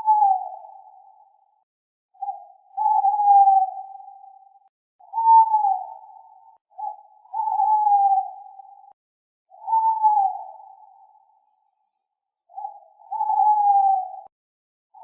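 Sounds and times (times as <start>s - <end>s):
owl hooting: 0.0s - 1.5s, 2.2s - 11.5s, 12.5s - 14.3s.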